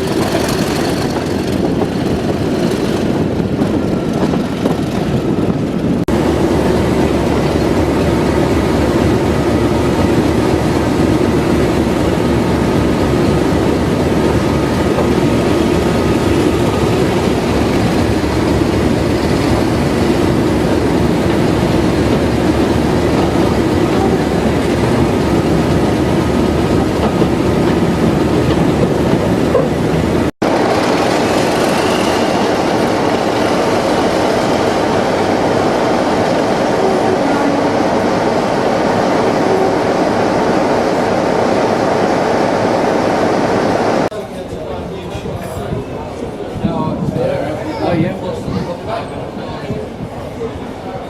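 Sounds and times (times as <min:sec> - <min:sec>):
diesel train engine: 0:00.0 - 0:51.0
train wheels on rails: 0:00.0 - 0:51.0.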